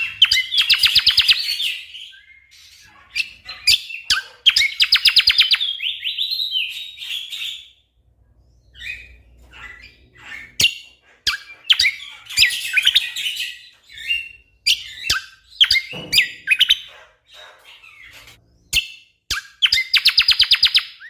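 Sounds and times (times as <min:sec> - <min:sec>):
bird rapid chirping: 0:00.0 - 0:21.0.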